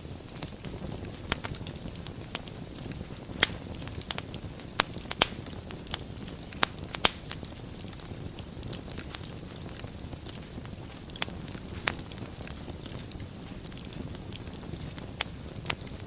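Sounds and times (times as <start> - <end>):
burning wood crackling and popping: 0.0 - 16.0
fire flames rumbling: 0.0 - 16.0.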